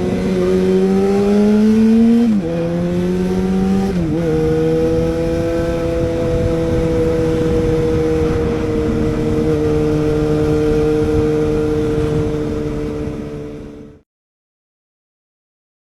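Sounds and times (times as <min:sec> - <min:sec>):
motorcycle engine loud exhaust note: 0:00.0 - 0:14.0.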